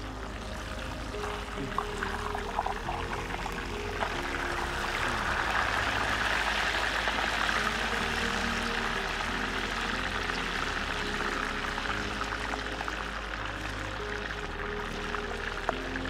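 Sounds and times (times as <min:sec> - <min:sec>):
background music: 0:00.0 - 0:16.0
fish deep-frying in oil: 0:00.0 - 0:16.0.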